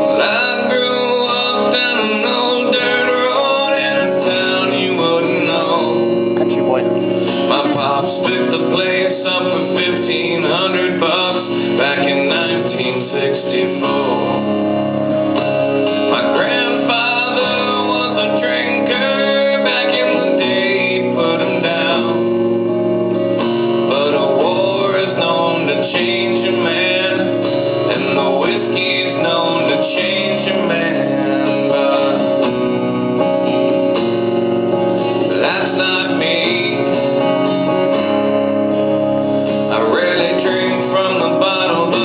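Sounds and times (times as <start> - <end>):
man singing: 0.0 - 14.7, 15.9 - 22.6, 23.8 - 32.8, 35.1 - 38.5, 39.5 - 42.0
band playing country on guitars: 0.0 - 42.0.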